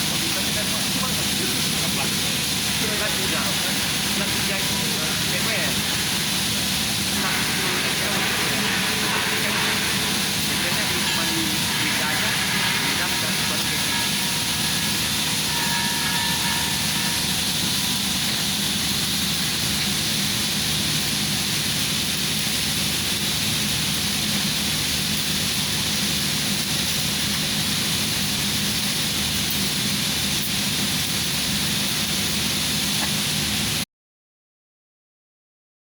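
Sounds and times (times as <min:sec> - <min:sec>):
low machine hum: 0:00.0 - 0:29.7
welding arc hissing and crackling: 0:00.0 - 0:33.8.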